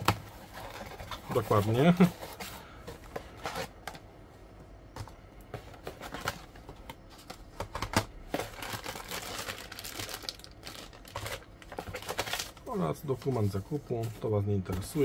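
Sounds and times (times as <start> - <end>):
packaging rustling and crinkling: 0.0 - 4.0, 5.6 - 15.0.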